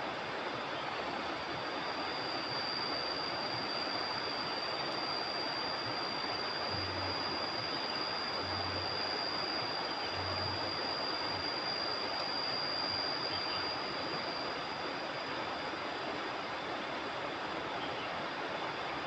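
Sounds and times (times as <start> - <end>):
high-pitched whine: 0.0 - 19.0
river water rushing: 0.0 - 19.0.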